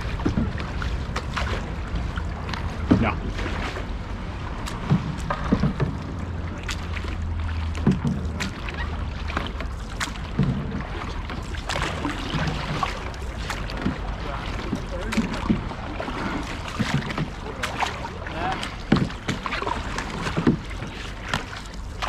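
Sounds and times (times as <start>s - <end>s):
low rumble: 0.0s - 22.0s
paddles knocking against hull: 0.0s - 22.0s
paddles splashing in water: 0.0s - 22.0s.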